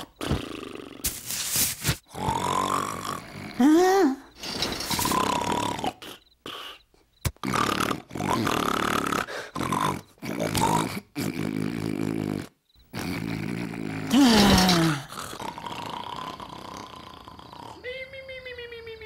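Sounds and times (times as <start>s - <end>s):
cartoon man snoring: 0.0s - 17.9s.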